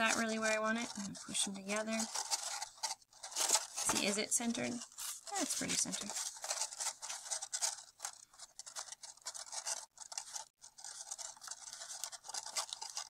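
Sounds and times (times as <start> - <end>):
paper rustling and scraping: 0.0 - 13.0.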